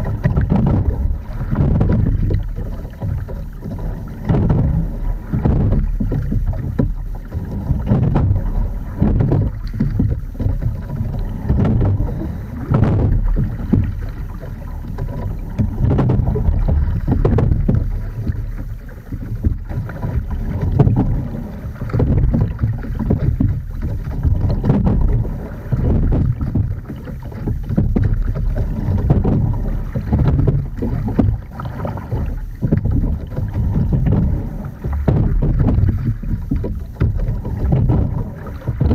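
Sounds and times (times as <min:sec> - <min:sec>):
low wind rumble: 0:00.0 - 0:38.9
water rushing along hull: 0:00.0 - 0:38.9.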